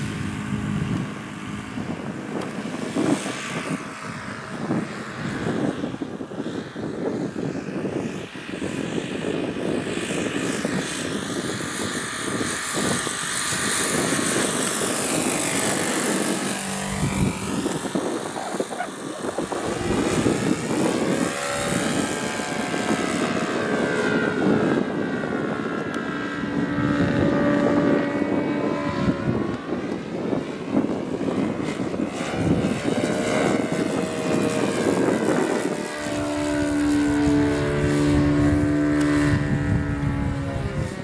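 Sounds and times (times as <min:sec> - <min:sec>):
model plane engine running: 0:00.0 - 0:41.0.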